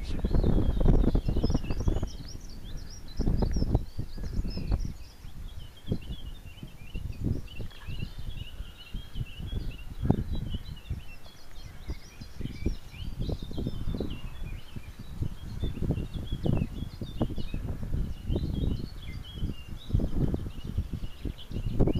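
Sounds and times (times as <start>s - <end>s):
small birds twittering: 0.0s - 21.9s
wind buffeting microphone: 0.0s - 21.9s.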